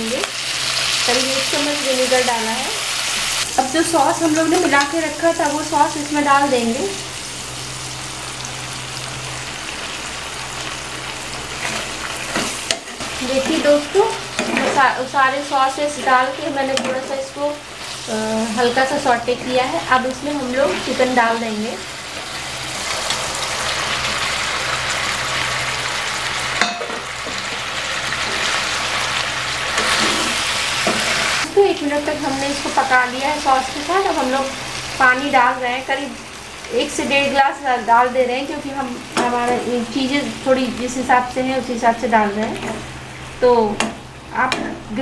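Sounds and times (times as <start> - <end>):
vegetables sizzling in hot oil: 0.0 - 45.0.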